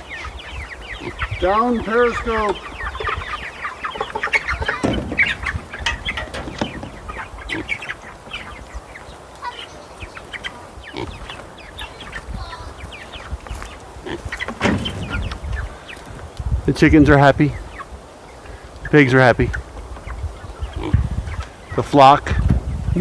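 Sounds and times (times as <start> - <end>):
chicks peeping and chirping: 0.0 - 23.0.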